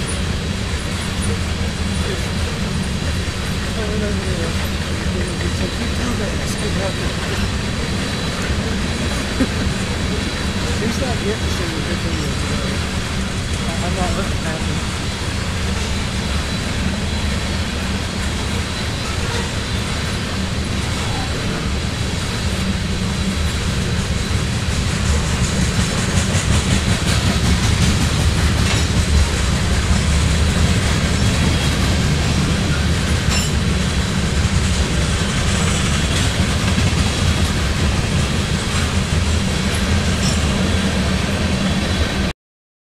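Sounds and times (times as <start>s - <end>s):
train wheels rumbling on rails: 0.0s - 42.3s.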